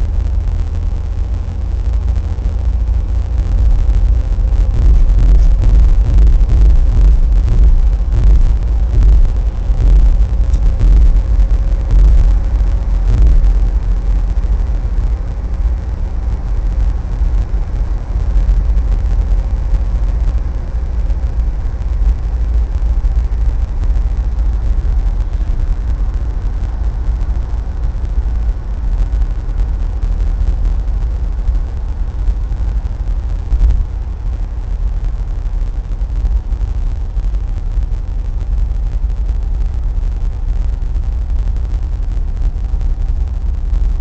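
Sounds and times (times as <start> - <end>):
car driving on highway: 0.0 - 44.0.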